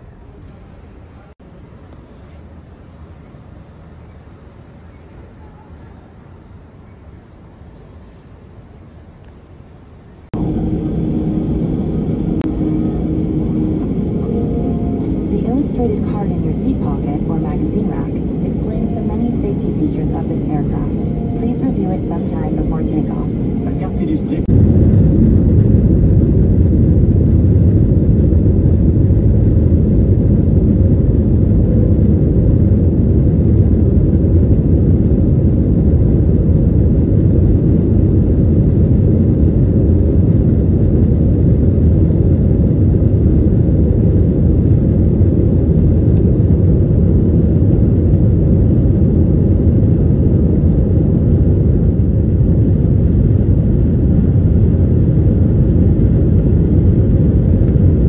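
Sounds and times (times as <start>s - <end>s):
jet cabin engine rumble: 10.2s - 58.0s.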